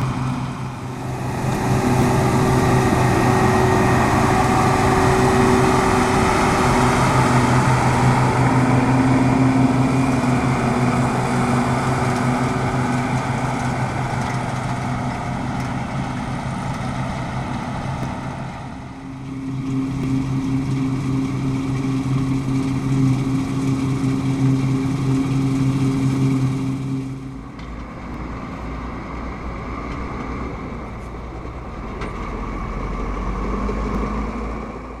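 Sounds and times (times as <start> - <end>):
combine harvester engine drone: 0.0 - 35.0.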